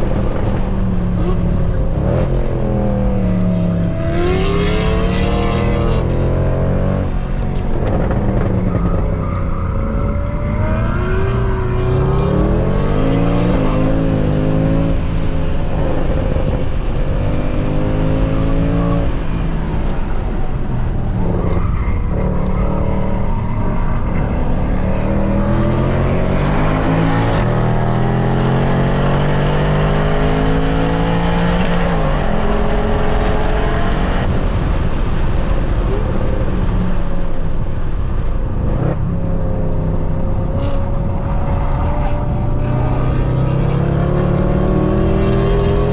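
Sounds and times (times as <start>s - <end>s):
race car engine revving: 0.0s - 35.2s, 38.6s - 45.9s.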